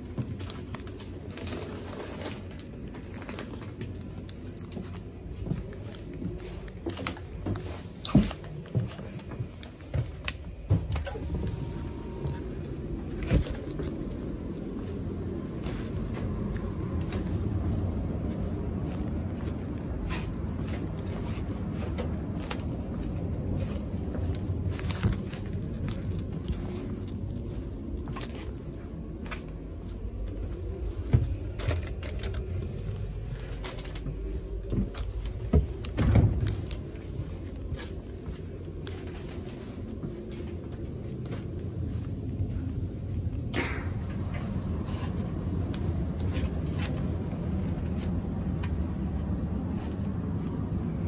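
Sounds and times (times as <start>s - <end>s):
train carriage running rumble: 0.0s - 51.0s.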